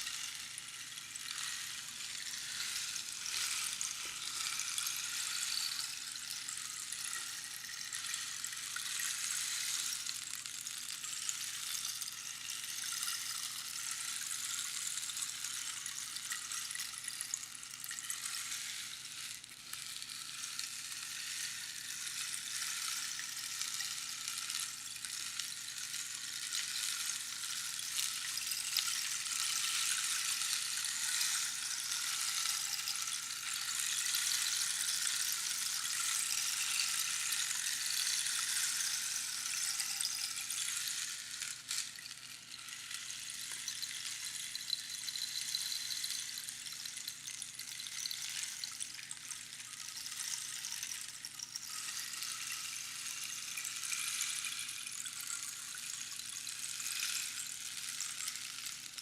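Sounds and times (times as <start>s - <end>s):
rainstick pebbles trickling: 0.0s - 59.0s.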